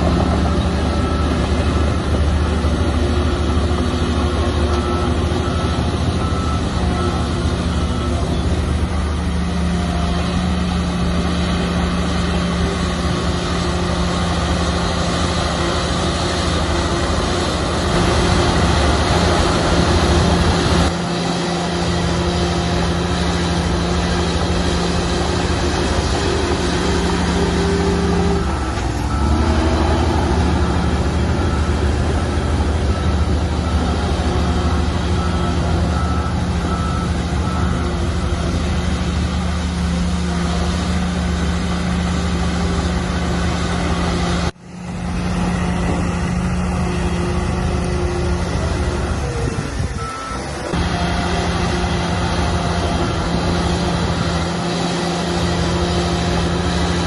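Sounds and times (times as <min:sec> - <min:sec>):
reversing alarm beeping: 0:00.0 - 0:39.8, 0:45.9 - 0:56.9
heavy diesel machinery running: 0:00.0 - 0:57.0.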